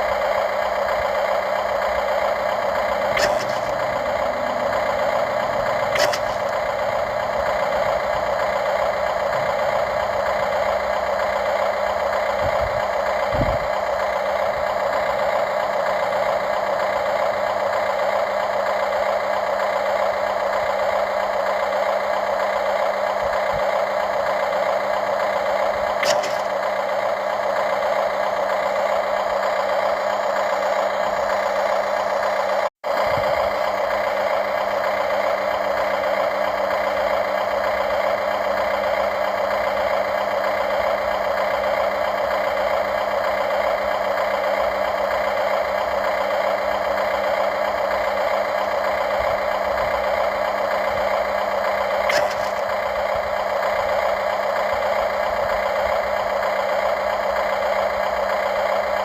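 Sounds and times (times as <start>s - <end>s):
small motor and hydraulic pump whine: 0.0s - 59.0s.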